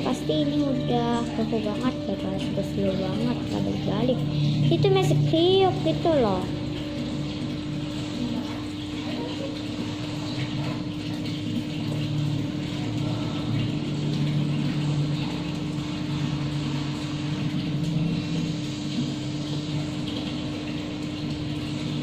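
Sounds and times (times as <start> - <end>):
mechanical hum: 0.0 - 22.0
wavering low drone: 0.0 - 22.0.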